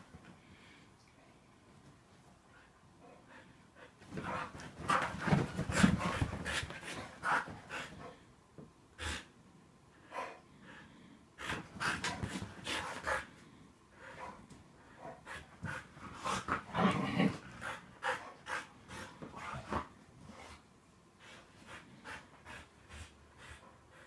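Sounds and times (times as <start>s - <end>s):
dogs panting while play-fighting: 2.5s - 8.3s, 10.0s - 24.0s.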